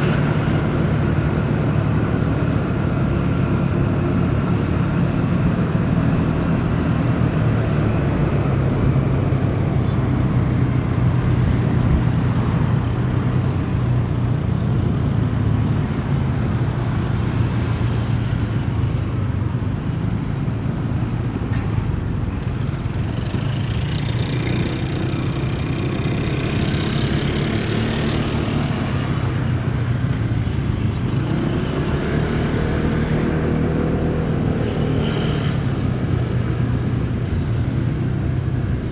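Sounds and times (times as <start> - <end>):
passing vehicles hissing: 0.0 - 38.9.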